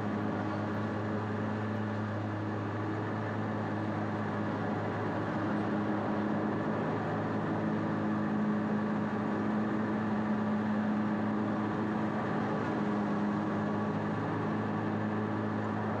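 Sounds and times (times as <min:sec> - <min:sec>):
mower engine running: 0:00.0 - 0:16.0.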